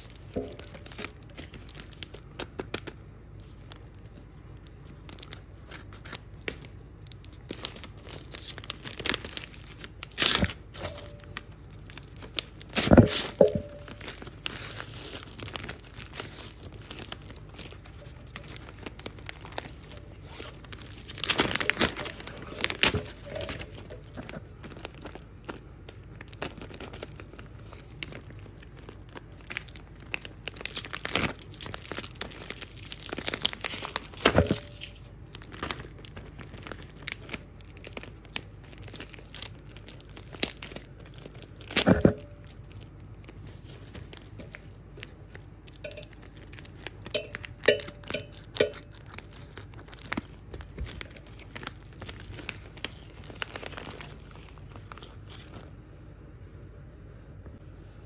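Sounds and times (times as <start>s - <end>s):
plastic ripping: 0.0s - 47.7s, 48.4s - 55.8s
plastic crinkling and rustling: 0.0s - 55.9s.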